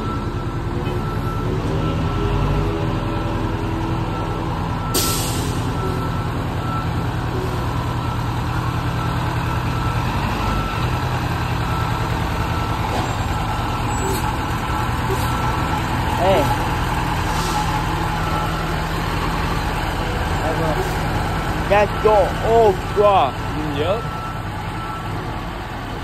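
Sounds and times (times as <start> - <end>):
reversing alarm beeping: 0.0 - 3.4, 4.0 - 25.2
truck engine running: 0.0 - 26.0.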